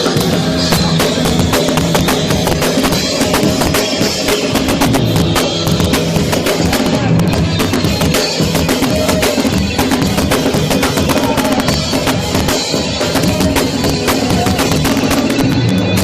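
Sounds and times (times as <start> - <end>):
live punk band playing: 0.0 - 16.0
rapid drum hits: 0.0 - 16.0.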